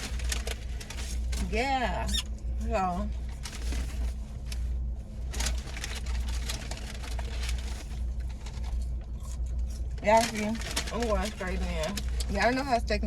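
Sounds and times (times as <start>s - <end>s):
paper bag rustling: 0.0s - 2.2s, 2.8s - 12.8s.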